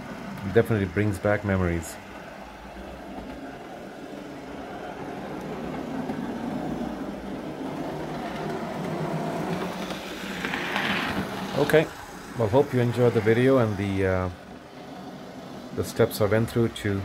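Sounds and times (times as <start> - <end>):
model train motor humming: 0.0 - 17.0.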